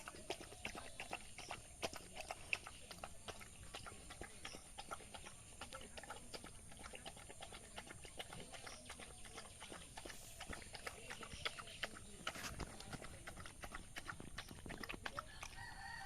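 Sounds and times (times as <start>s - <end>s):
dog chewing food: 0.0s - 16.0s.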